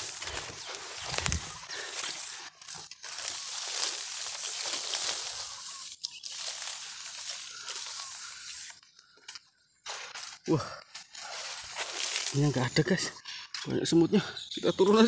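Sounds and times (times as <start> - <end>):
leaves and branches rustling: 0.0 - 14.0.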